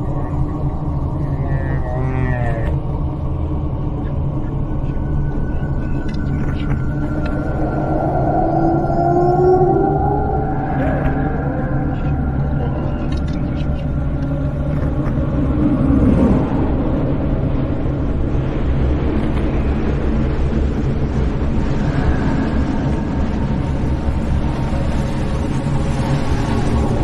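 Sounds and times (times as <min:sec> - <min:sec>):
low rumbling drone: 0:00.0 - 0:27.0.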